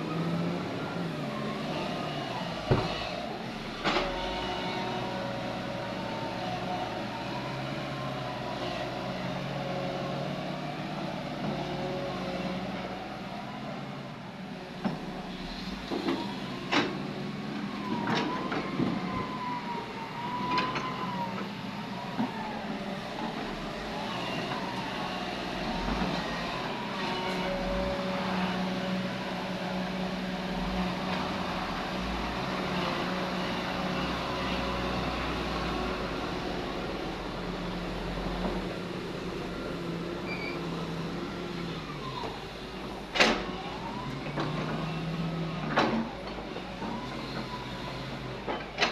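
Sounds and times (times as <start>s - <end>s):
diesel machinery running: 0.0s - 48.9s.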